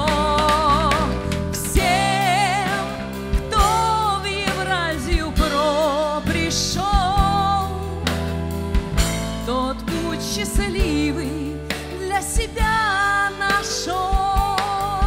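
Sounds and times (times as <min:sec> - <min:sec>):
person singing with vibrato: 0:00.0 - 0:08.1, 0:09.4 - 0:15.0
backing track: 0:00.0 - 0:15.0.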